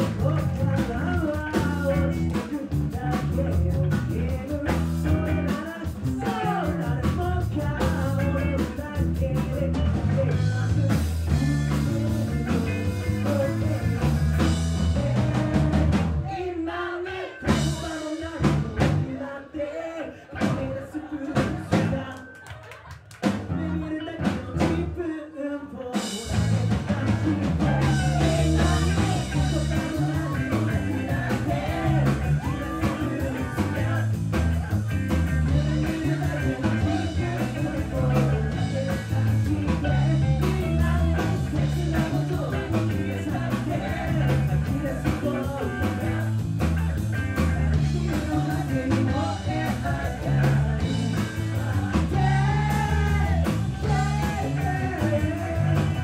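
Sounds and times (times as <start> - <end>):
live rock band playing: 0.0 - 16.3, 17.1 - 19.3, 20.3 - 25.1, 25.8 - 56.0
man singing lead: 0.0 - 56.0.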